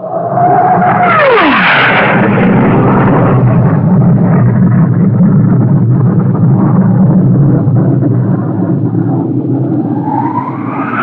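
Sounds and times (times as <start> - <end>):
jet roar: 0.0 - 11.0
jet whine falling in pitch: 0.0 - 11.0.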